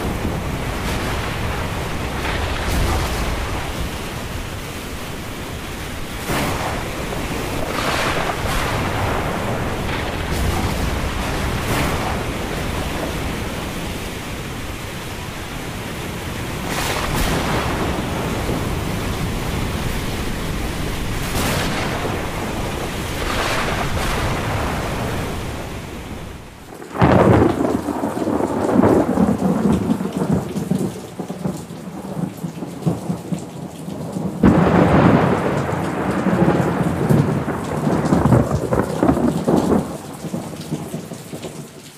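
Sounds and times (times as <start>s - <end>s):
thunder cracks: 0.0s - 31.3s, 34.4s - 41.0s
rolling thunder: 0.0s - 33.3s, 34.3s - 41.0s
heavy rain: 0.0s - 41.9s.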